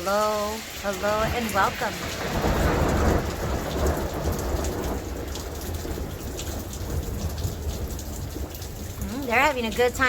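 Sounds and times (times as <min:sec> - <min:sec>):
rain pattering: 0:00.0 - 0:10.0
thunder rolling: 0:00.1 - 0:10.0.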